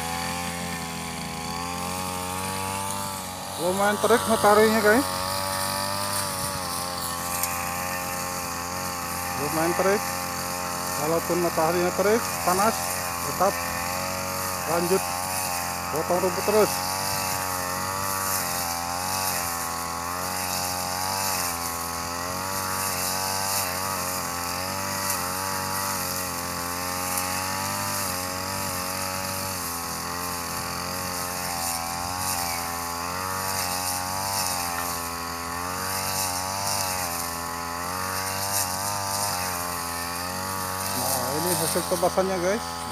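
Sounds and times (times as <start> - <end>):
brush cutter engine cutting grass: 0.0 - 42.9.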